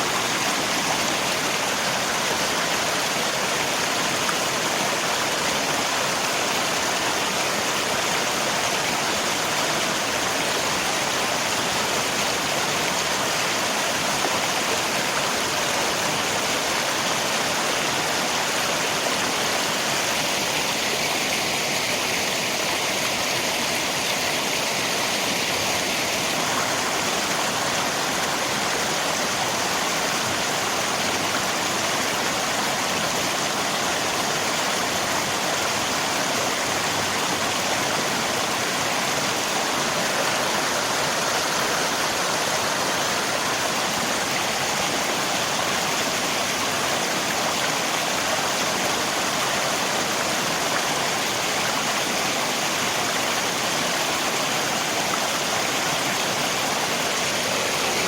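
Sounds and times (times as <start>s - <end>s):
rain falling: 0.0s - 58.0s
river water flowing: 0.0s - 58.0s.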